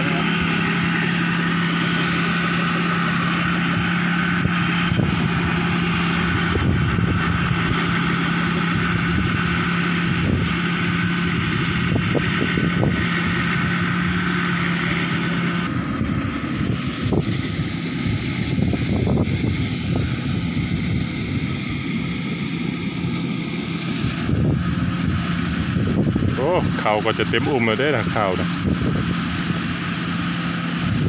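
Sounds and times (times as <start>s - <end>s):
threshing hiss: 0.0s - 30.9s
combine harvester engine drone: 0.0s - 31.0s.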